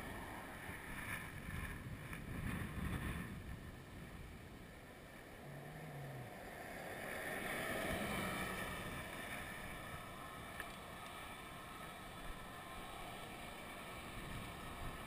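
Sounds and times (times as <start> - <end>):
faint steady whine: 0.0 - 15.0
wind rushing over microphone: 0.0 - 15.0.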